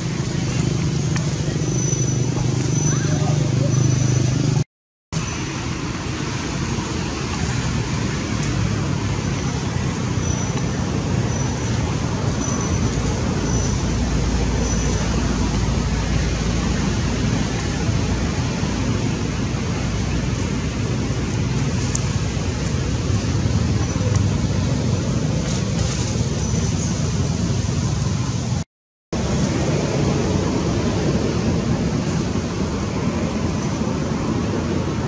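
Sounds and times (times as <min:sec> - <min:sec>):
low outdoor rumble: 0:00.0 - 0:04.6, 0:05.2 - 0:28.6, 0:29.2 - 0:35.0.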